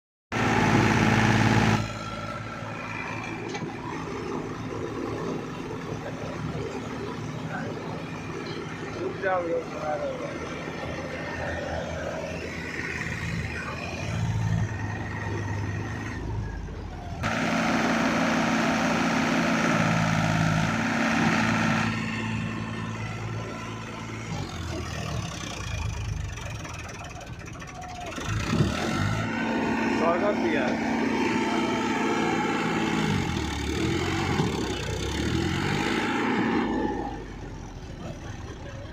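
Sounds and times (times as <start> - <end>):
tractor diesel engine running: 0.3 - 38.9.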